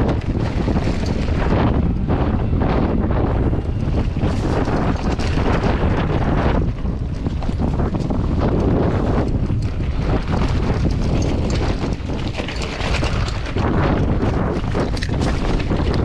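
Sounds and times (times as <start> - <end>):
mountain bike knocks and rattles: 0.0 - 16.0
wind buffeting microphone: 0.0 - 16.0.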